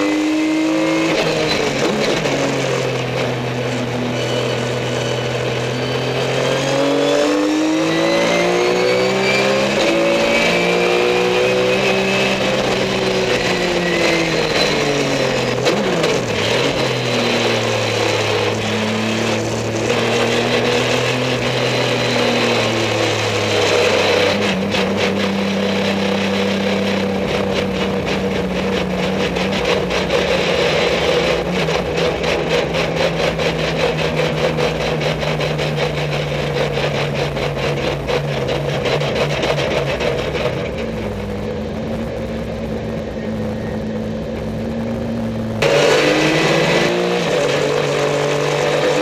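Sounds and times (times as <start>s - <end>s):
race car engine from inside: 0.0s - 49.0s.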